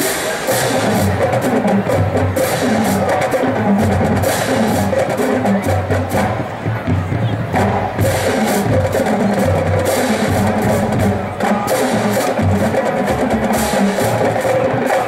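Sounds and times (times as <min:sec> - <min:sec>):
marching bass drums: 0:00.0 - 0:15.0
snare drums: 0:00.0 - 0:15.0.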